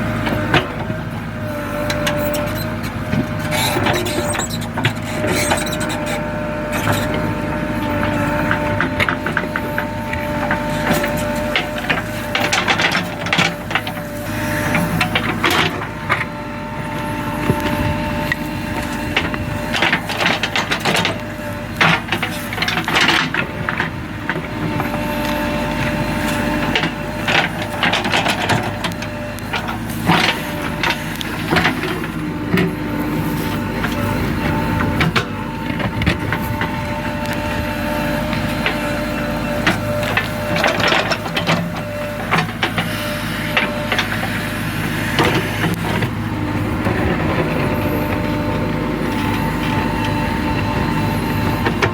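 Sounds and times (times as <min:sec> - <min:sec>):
diesel engine whining: 0:00.0 - 0:51.9.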